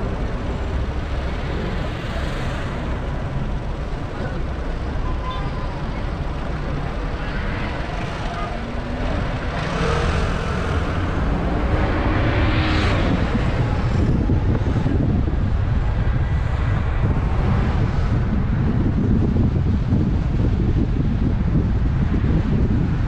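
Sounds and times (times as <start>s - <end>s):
car engine and road noise: 0.0s - 23.0s
wind buffeting microphone: 0.0s - 23.0s.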